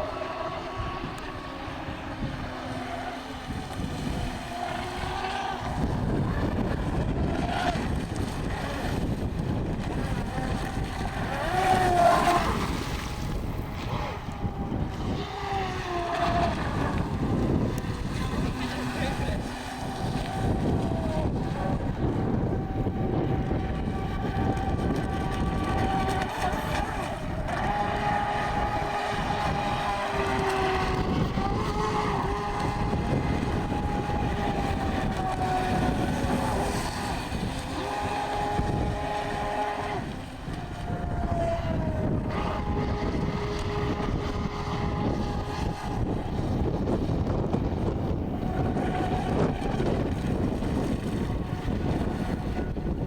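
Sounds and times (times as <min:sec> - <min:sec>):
steady rushing noise: 0:00.0 - 0:53.0
toy boat electric motor whining: 0:00.0 - 0:53.0.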